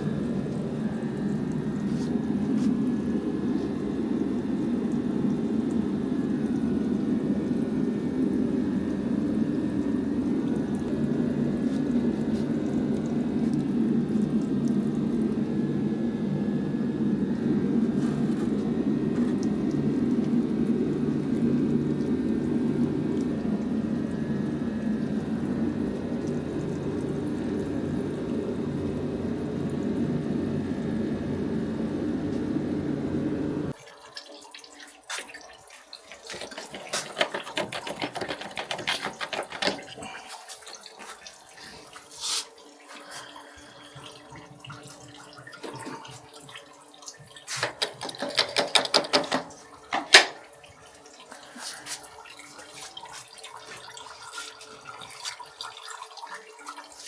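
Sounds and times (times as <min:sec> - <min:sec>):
coolant pouring into drain pan: 0:00.0 - 0:57.0
dripping liquid: 0:00.0 - 0:57.0.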